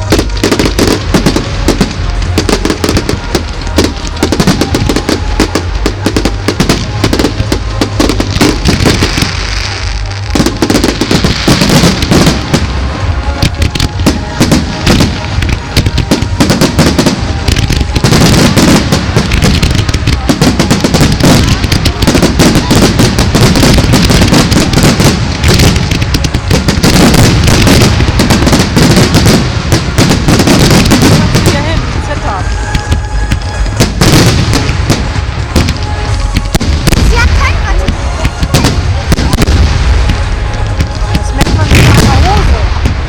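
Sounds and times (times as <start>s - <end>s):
fireworks bangs and crackles: 0.0s - 43.0s
music playing: 0.0s - 43.0s.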